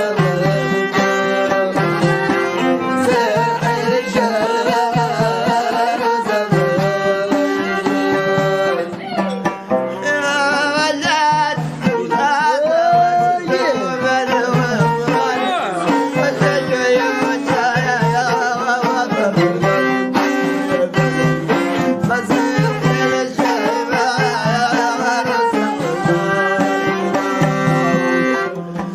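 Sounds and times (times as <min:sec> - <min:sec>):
hand drum beat: 0:00.0 - 0:28.9
plucked strings: 0:00.0 - 0:28.9.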